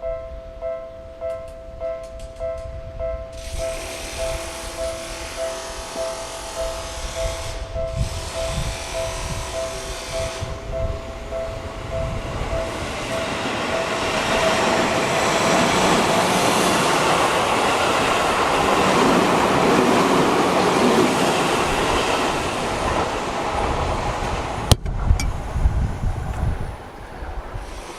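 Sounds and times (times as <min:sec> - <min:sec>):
crossing warning bell ringing: 0:00.0 - 0:23.0
electric train passing: 0:00.0 - 0:27.9.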